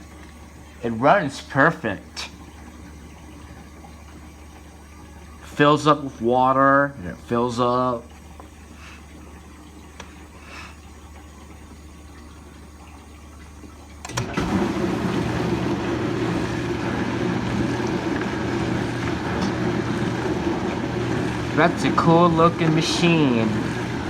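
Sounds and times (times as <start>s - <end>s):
dishwasher motor hum: 0.0s - 24.0s
water rushing in dishwasher: 0.0s - 24.0s.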